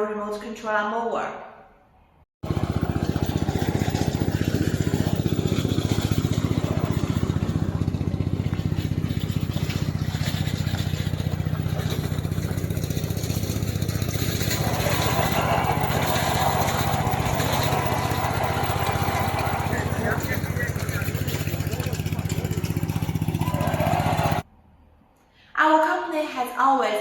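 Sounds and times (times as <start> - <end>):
brush cutter engine running: 2.4 - 24.4
higher hum: 2.4 - 24.4.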